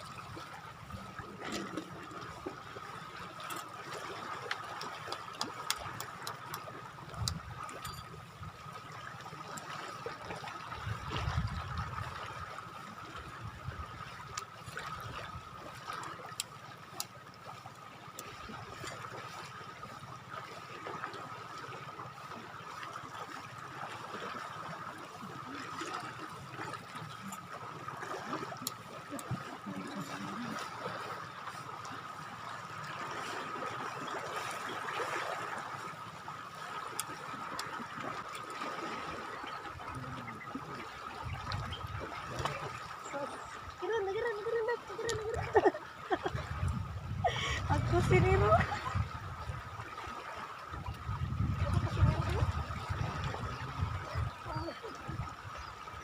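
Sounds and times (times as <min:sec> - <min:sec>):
water trickling and lapping: 0:00.0 - 0:56.0.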